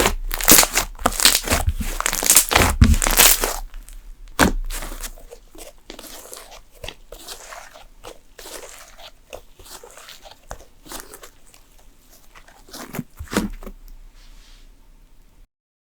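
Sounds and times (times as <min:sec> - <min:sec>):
slime squishing and popping: 0:00.0 - 0:13.9.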